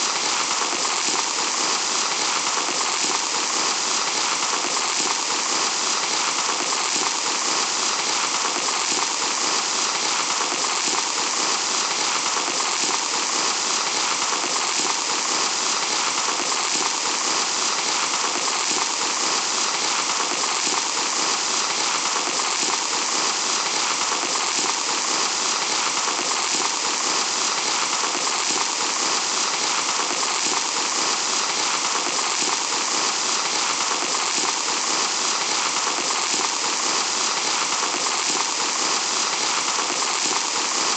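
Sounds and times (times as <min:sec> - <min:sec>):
sand pouring: 0:00.0 - 0:40.9.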